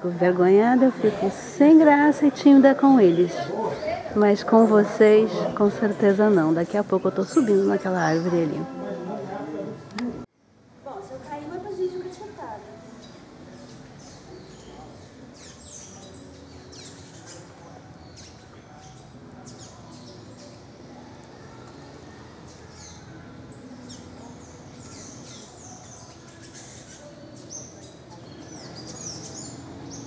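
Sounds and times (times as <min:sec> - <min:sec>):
birds chirping: 0:00.0 - 0:10.2, 0:10.9 - 0:30.0
murmur of distant voices: 0:00.0 - 0:30.0.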